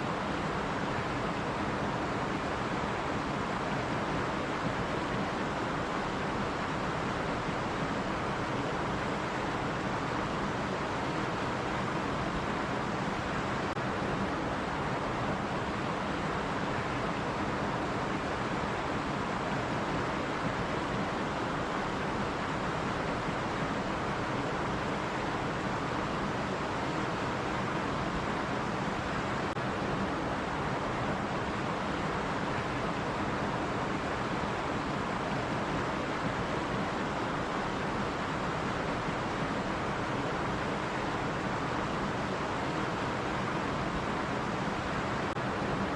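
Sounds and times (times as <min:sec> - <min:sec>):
stream water over rocks: 0:00.0 - 0:45.9.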